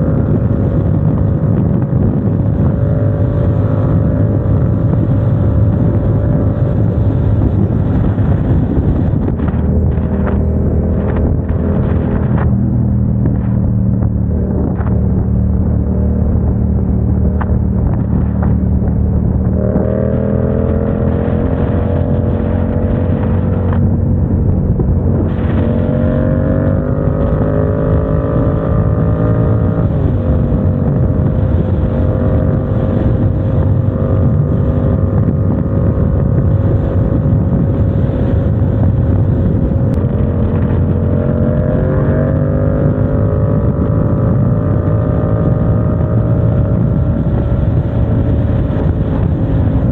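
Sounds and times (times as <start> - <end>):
motorcycle engine running: 0.0 - 49.9
road rumble: 0.0 - 49.9
wind: 0.0 - 49.9.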